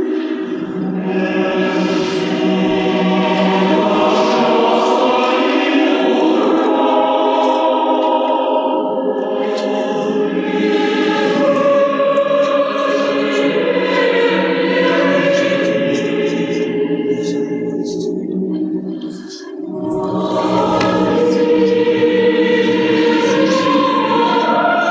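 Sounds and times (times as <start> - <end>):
choir singing sustained chords: 0.0 - 24.9.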